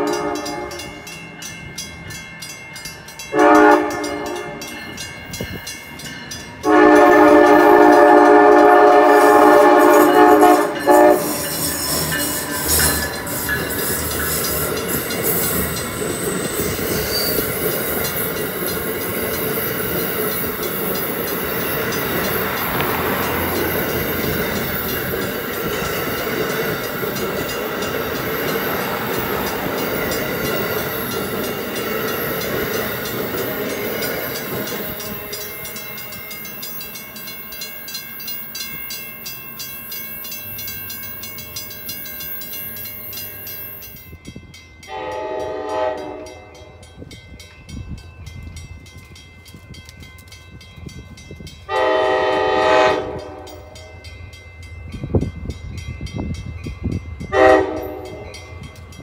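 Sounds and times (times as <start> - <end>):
crossing bell ringing: 0.0 - 59.0
train wheels rumbling on rail: 0.0 - 59.0.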